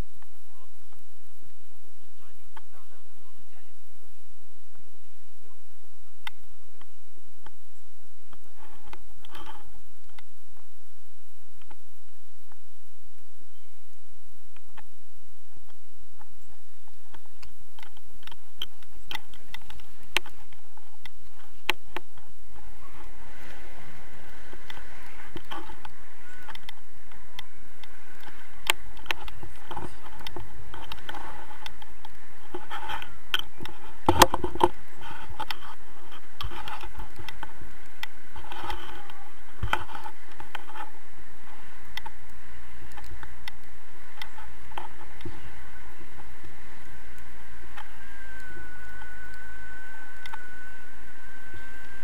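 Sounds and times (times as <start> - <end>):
wind noise on microphone: 0.0 - 52.0
steady high tone: 9.7 - 52.0.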